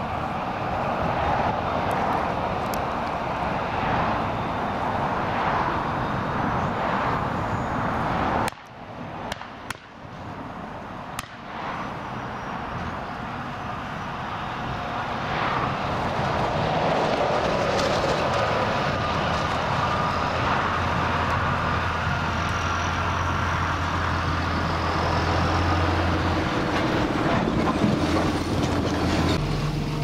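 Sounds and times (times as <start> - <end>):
forage harvester machine noise: 0.0 - 30.0.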